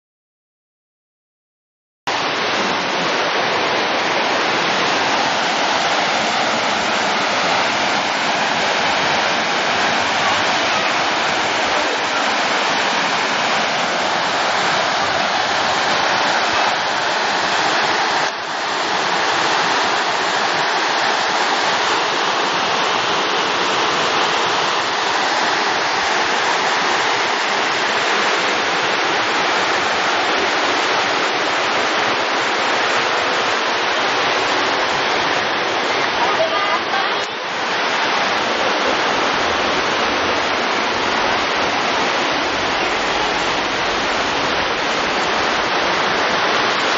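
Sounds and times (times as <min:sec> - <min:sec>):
rushing floodwater: 0:02.1 - 0:46.9.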